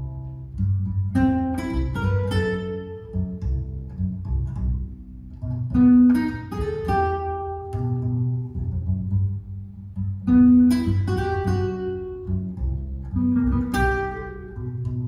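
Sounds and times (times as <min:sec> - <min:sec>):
acoustic guitar playing jazz: 0:00.0 - 0:15.0
plucked double bass: 0:00.0 - 0:15.0.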